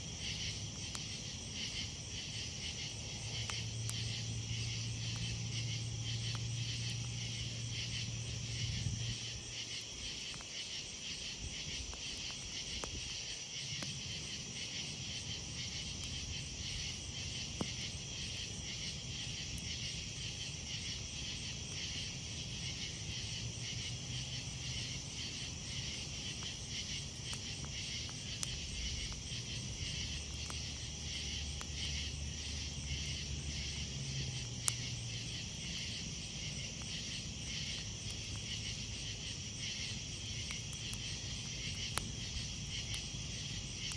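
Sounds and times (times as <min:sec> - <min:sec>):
campfire pops: 0:00.0 - 0:43.9
insects chirping: 0:00.0 - 0:43.9.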